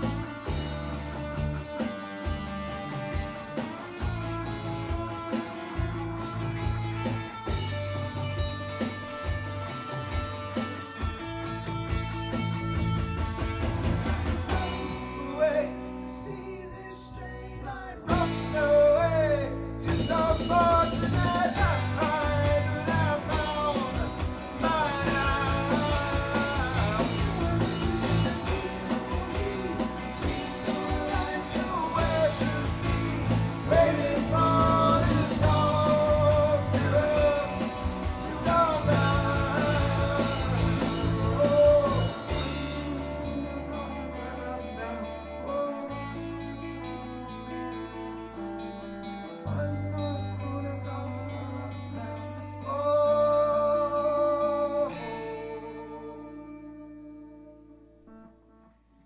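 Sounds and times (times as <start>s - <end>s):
rock song with vocals: 0.0s - 57.3s.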